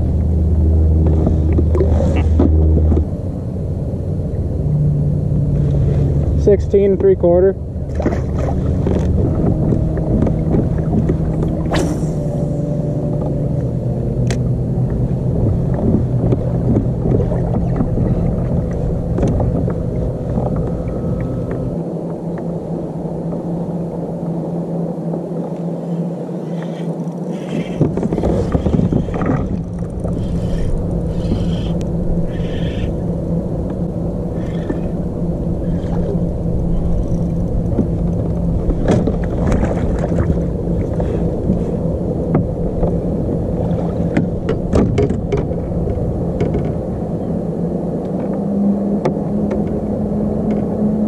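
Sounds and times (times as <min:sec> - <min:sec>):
droning hum: 0:00.0 - 0:51.0
motor vehicle engine rumble: 0:00.0 - 0:51.0.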